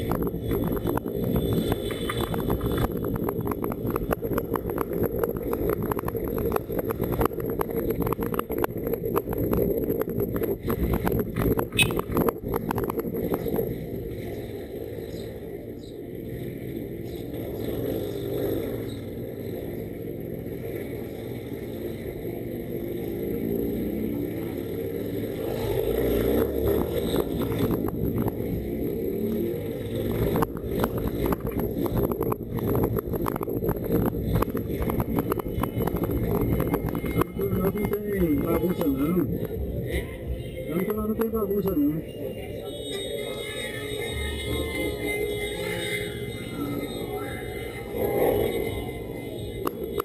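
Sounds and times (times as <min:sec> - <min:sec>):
motorcycle engine running: 0:00.0 - 0:41.6.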